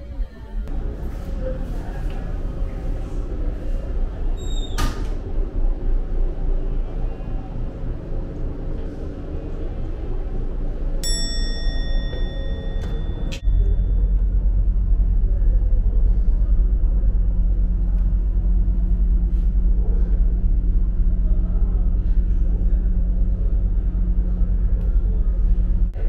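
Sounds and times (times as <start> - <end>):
constant low hum: 0.0 - 26.0
ship engines rumbling: 0.0 - 26.0.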